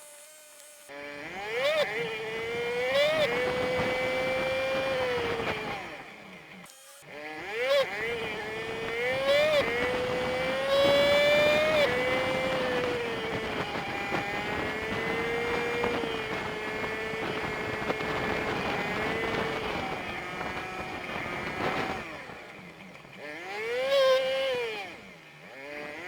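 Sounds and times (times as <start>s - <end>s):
sped-up engine whine: 0.0s - 26.0s.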